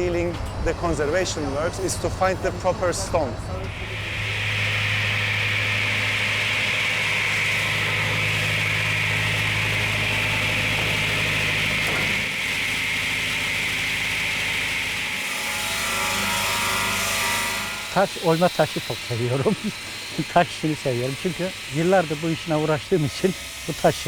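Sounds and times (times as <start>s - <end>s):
machine motor humming and hissing: 3.6s - 24.0s.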